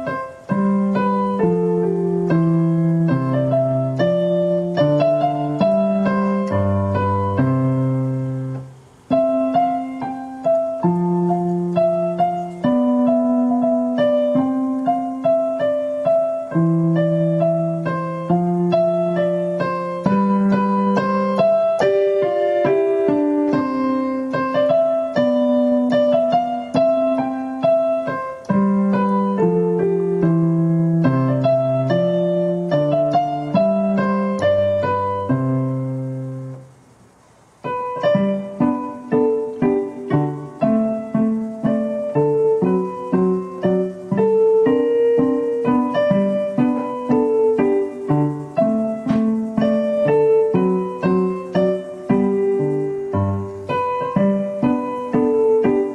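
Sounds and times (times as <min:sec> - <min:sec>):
piano music: 0:00.0 - 0:36.8, 0:37.4 - 0:55.9.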